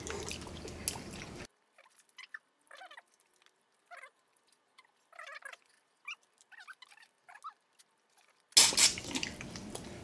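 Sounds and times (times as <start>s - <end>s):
chewing and lip smacks: 0.0s - 10.0s.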